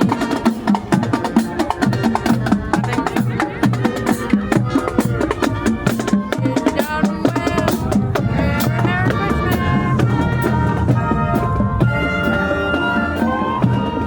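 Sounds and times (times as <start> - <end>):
busy drum beat: 0.0 - 14.0
pitched melody: 0.0 - 14.0.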